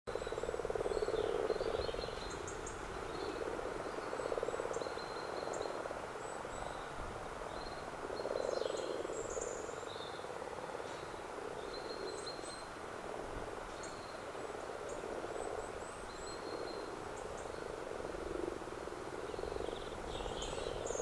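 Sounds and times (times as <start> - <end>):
frogs croaking: 0.1 - 21.0.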